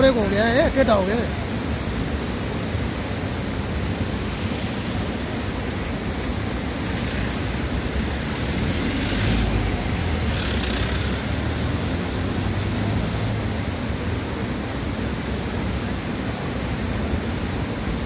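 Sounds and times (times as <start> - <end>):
flooded river rushing: 0.0 - 18.0.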